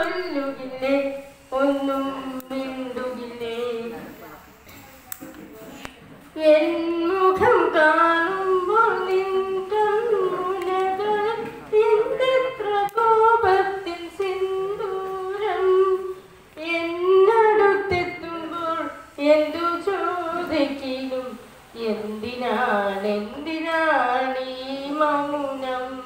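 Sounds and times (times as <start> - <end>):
woman singing unaccompanied: 0.0 - 4.2, 6.4 - 26.0.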